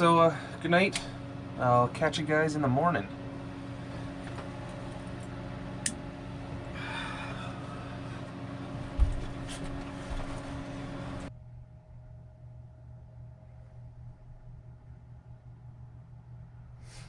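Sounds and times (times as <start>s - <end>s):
electric heater humming: 0.0s - 17.0s.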